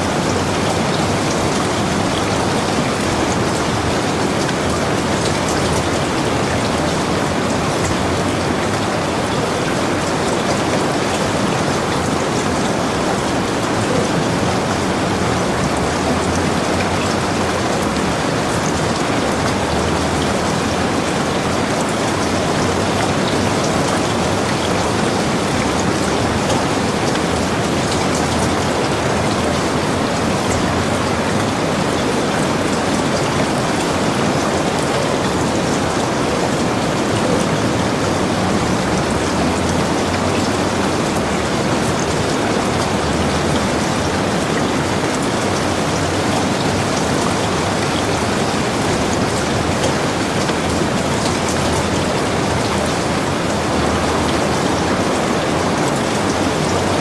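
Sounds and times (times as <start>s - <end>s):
heavy rain falling: 0.0s - 57.0s
raindrops hitting: 0.0s - 57.0s.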